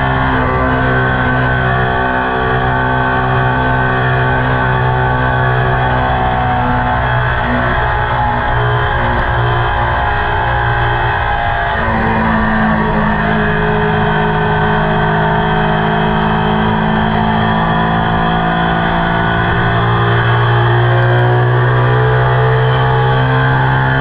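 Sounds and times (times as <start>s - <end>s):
motorcycle engine and exhaust: 0.0s - 24.0s.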